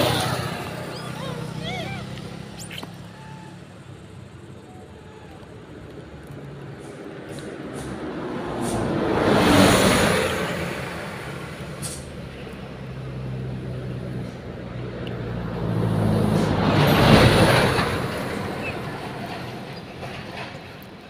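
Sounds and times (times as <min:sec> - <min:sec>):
vehicle engine passing: 0:00.0 - 0:04.5, 0:05.4 - 0:20.5
earlier vehicle passing: 0:00.0 - 0:04.6, 0:05.2 - 0:20.8.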